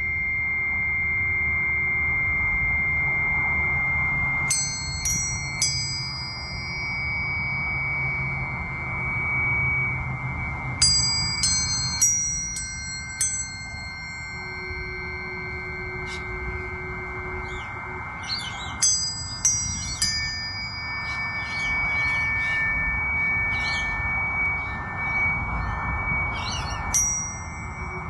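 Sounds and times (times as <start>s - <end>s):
lower pure tone hum: 0.0s - 28.0s
tuning fork metallic ping: 0.0s - 28.0s.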